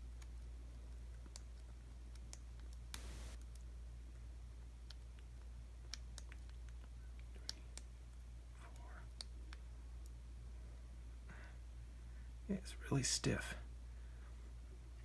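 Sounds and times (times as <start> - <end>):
low steady hum: 2.9 - 15.0.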